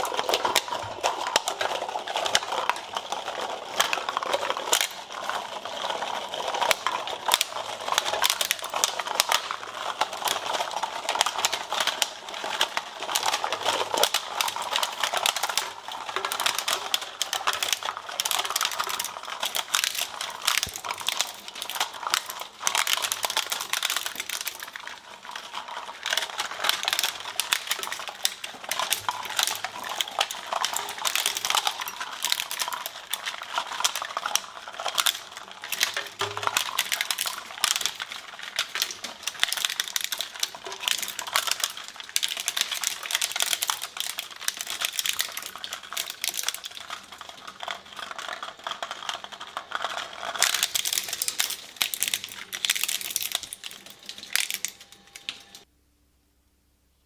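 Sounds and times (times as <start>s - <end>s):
shredder crushing material: 0.0s - 55.7s.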